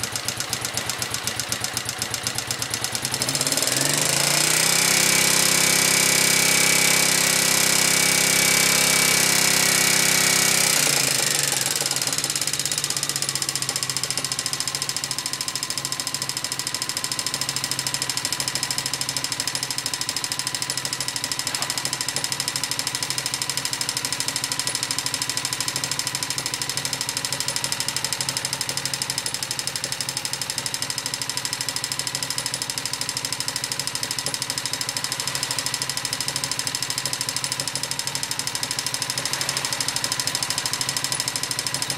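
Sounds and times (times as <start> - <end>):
clattering engine tick: 0.0 - 41.9
motorcycle engine running: 0.0 - 41.9.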